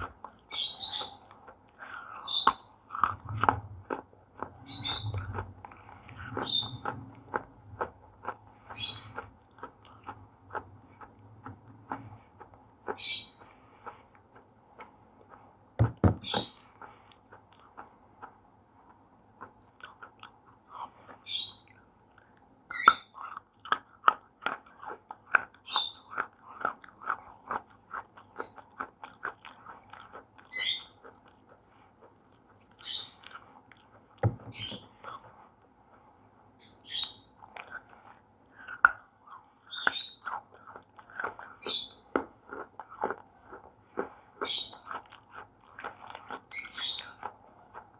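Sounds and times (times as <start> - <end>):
slate pencils being chewed: 0.0 - 36.1, 37.0 - 47.9.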